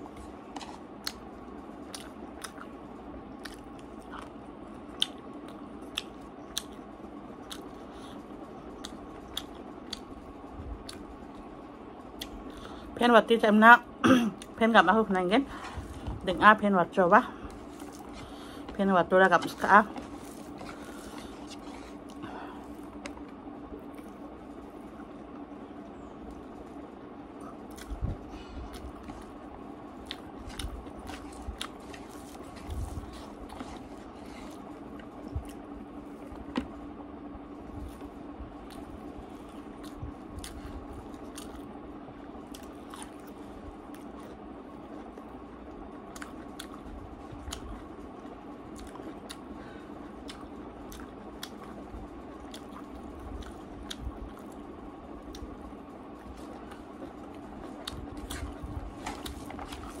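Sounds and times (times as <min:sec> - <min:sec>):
person chewing food: 0:00.0 - 0:11.5, 0:17.3 - 0:18.8, 0:19.4 - 0:25.5, 0:27.3 - 0:36.8, 0:37.5 - 1:00.0
low background hum: 0:00.0 - 1:00.0.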